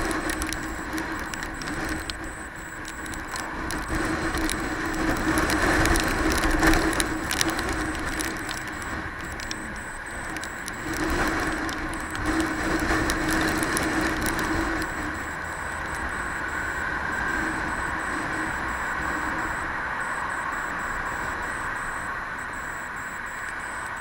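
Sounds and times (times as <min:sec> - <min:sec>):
light ticks: 0:00.0 - 0:24.0
tyres on wet road: 0:00.0 - 0:24.0
wind noise: 0:00.0 - 0:24.0.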